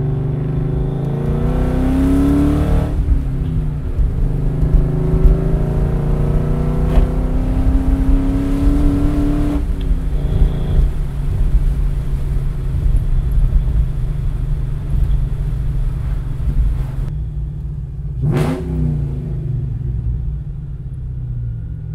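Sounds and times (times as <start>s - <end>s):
car engine accelerating: 0.0s - 21.9s.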